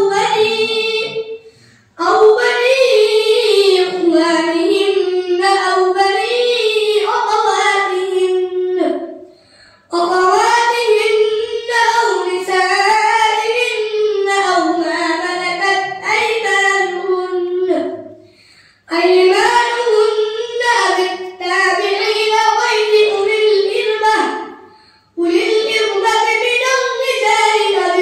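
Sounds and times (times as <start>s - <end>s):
boy reciting melodically: 0.0s - 28.0s.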